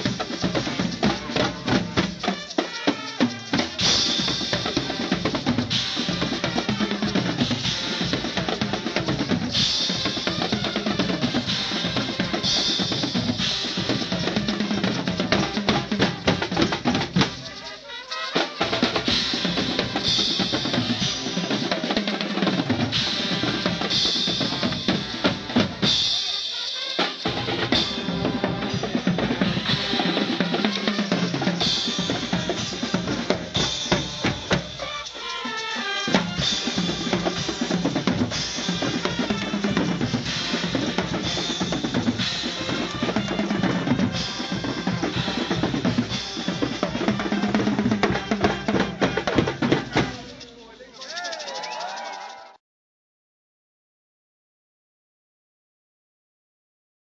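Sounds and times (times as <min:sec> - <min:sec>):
drums playing a driving rhythm: 0:00.0 - 0:50.6.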